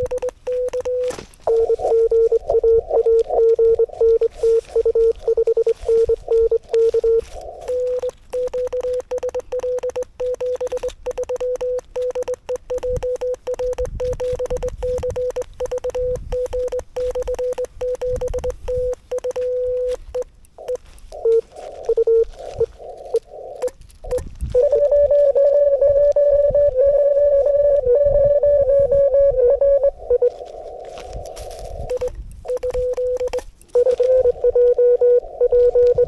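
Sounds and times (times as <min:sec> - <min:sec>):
crackling radio static: 0:00.0 - 0:36.0
higher-pitched morse code tone: 0:00.0 - 0:36.0
morse code tone: 0:00.0 - 0:36.0.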